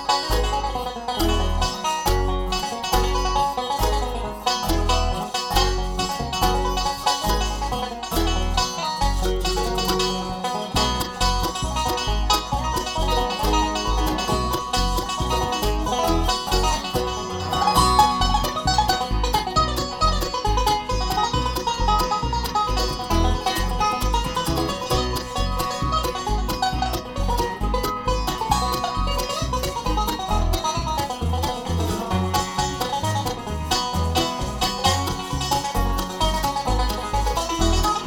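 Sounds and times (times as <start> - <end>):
banjo picking fast lead: 0.0 - 38.0
bluegrass band playing: 0.0 - 38.0.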